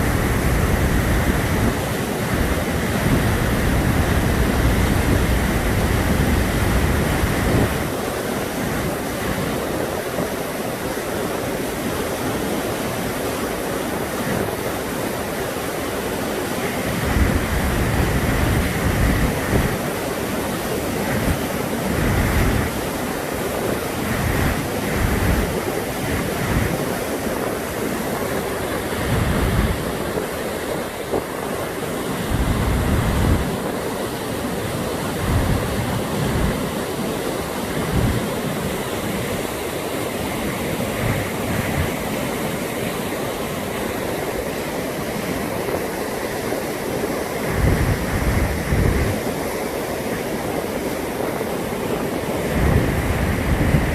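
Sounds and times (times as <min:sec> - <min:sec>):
wind buffeting microphone: 0:00.0 - 0:12.7, 0:16.6 - 0:43.0, 0:43.8 - 0:53.9
river water rushing over falls: 0:00.0 - 0:53.9.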